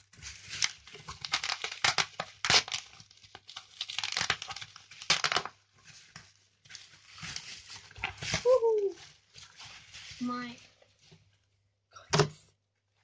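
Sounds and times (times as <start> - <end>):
plastic wrapping crinkling: 0.0 - 11.3.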